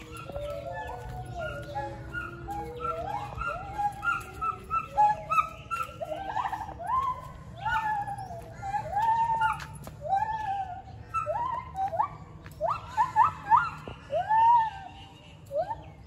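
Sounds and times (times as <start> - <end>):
gibbons whooping calls: 0.0 - 16.0.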